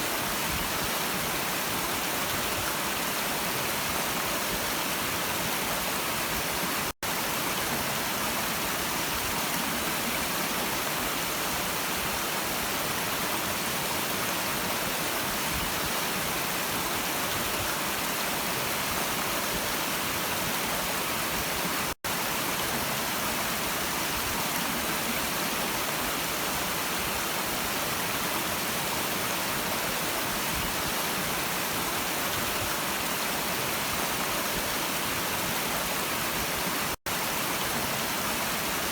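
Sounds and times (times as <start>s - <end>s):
flowing stream rushing: 0.0s - 38.9s.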